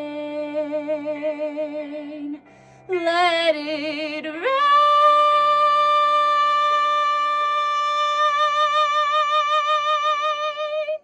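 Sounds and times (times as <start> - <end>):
woman singing high note: 0.0 - 11.0.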